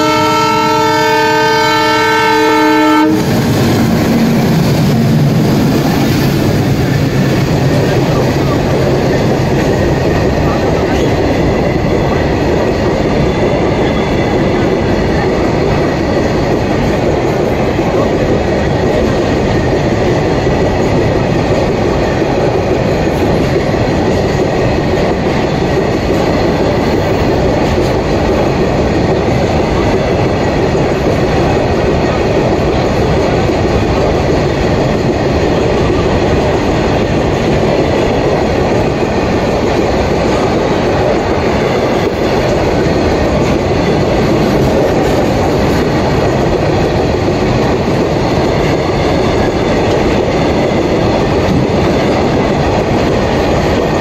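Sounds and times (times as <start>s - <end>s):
freight wagons rumbling on rails: 0.0s - 54.0s.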